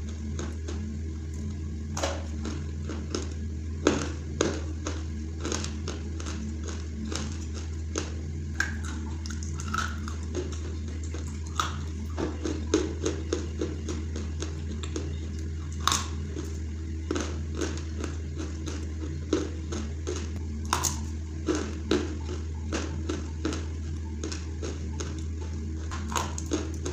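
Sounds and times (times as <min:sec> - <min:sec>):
chewing crunchy clay: 0:00.0 - 0:26.9
low hum: 0:00.0 - 0:26.9.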